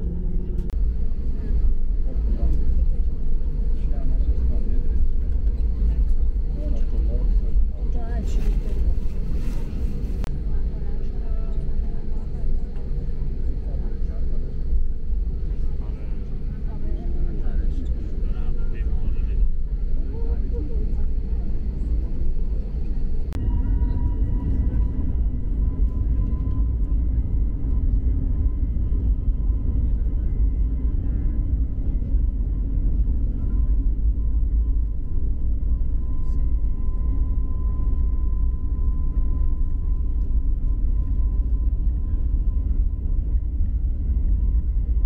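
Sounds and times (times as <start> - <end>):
jet engine rumble with high tone: 0.0 - 45.0.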